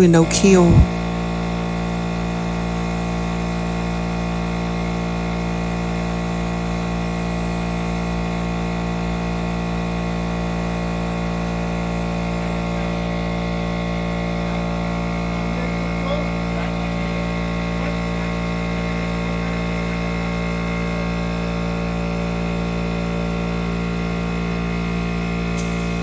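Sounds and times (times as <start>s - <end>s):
air compressor motor humming: 0.8s - 26.0s.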